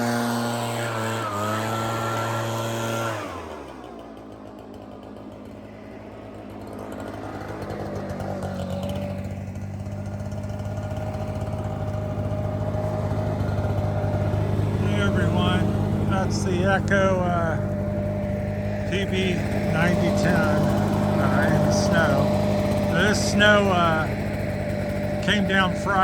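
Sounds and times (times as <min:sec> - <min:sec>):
leaf blower engine: 0:00.0 - 0:26.0.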